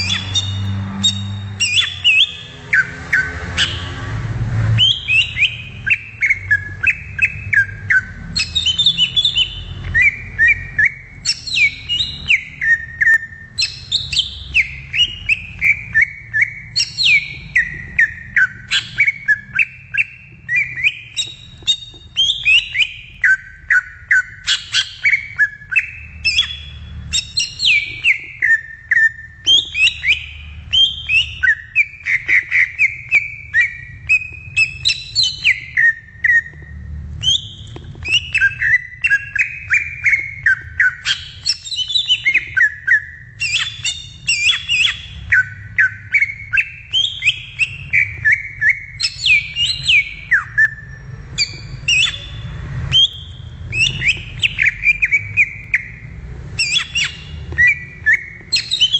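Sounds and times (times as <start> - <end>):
bird singing whistled song: 0.0 - 58.9.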